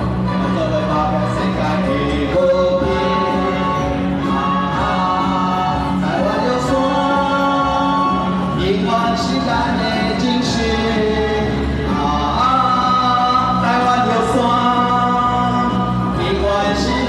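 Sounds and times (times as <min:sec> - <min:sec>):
backing music: 0:00.0 - 0:17.0
man singing into a microphone: 0:00.0 - 0:17.0.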